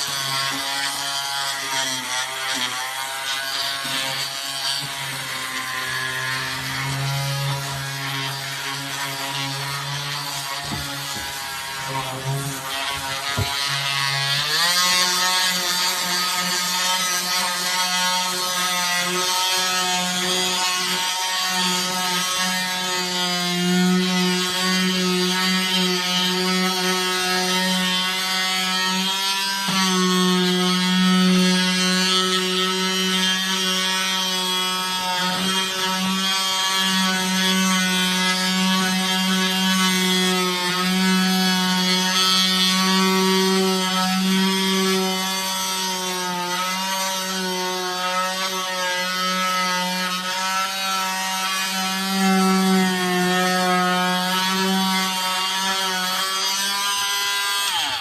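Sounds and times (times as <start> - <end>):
oscillating multi-tool humming: 0.0 - 58.0.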